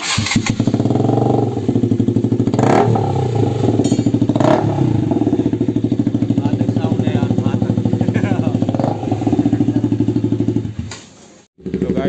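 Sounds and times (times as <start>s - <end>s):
motorcycle engine open exhaust: 0.0s - 10.9s, 11.6s - 12.0s.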